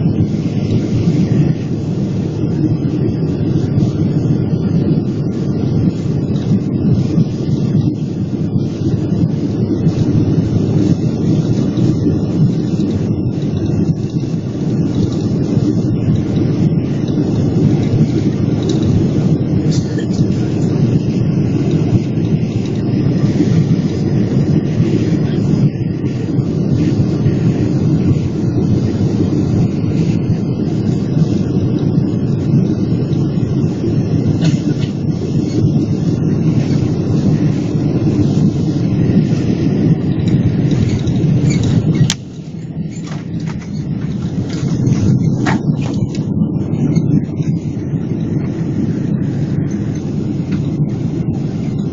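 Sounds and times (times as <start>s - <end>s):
aircraft cabin engine rumble: 0.0s - 51.9s.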